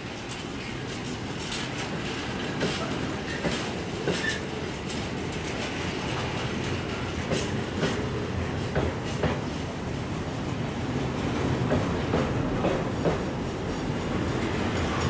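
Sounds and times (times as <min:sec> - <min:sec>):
freight train rolling rumble: 0:00.0 - 0:15.0
wheels clacking over rail joints: 0:00.1 - 0:15.0.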